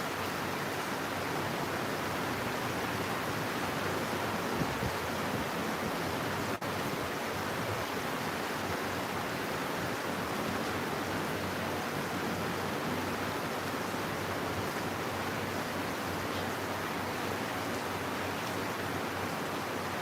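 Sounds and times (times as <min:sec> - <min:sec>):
heavy rain hiss: 0:00.0 - 0:20.0.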